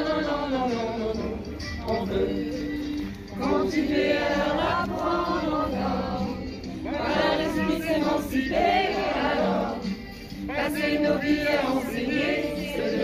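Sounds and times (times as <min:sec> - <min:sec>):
group of people singing in unison: 0:00.0 - 0:13.0.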